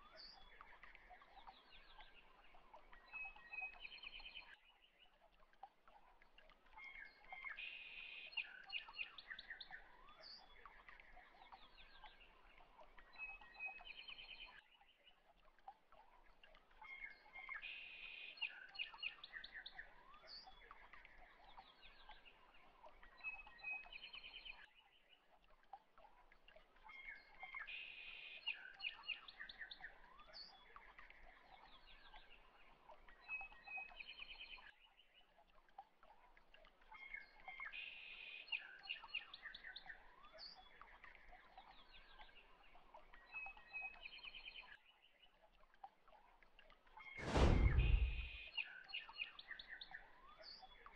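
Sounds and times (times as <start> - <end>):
faint birdsong: 0.0 - 50.9.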